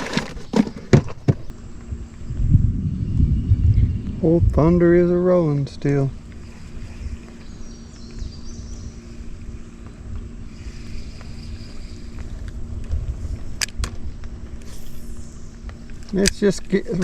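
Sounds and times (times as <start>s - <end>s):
electric motor humming: 0.0s - 17.0s
wind rumble: 1.2s - 17.0s.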